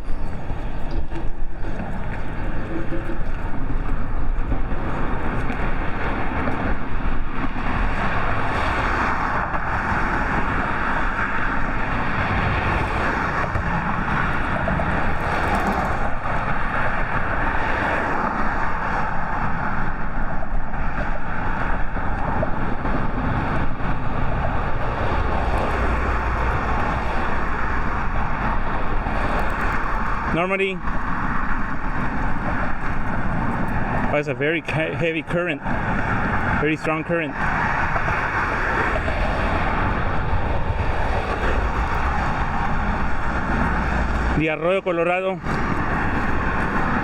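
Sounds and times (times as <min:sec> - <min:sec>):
creek rushing: 0:00.0 - 0:47.0.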